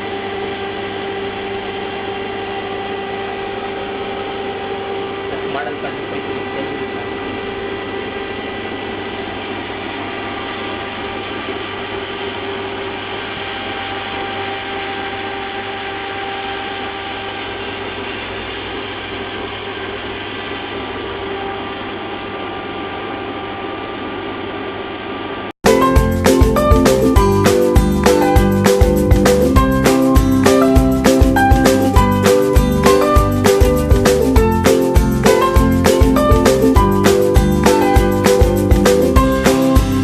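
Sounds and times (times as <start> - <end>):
machinery hum and whine: 0.0 - 40.0.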